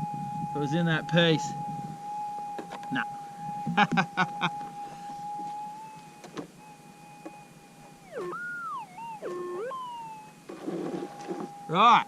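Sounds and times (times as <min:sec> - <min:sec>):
metal detector threshold hum: 0:00.0 - 0:12.0.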